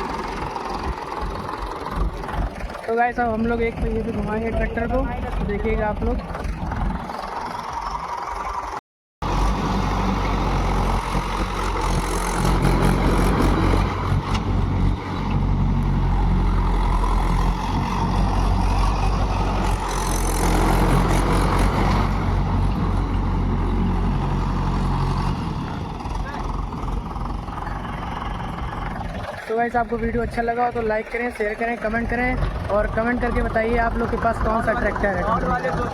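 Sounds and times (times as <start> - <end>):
tractor diesel engine running hard: 0.0 - 35.9.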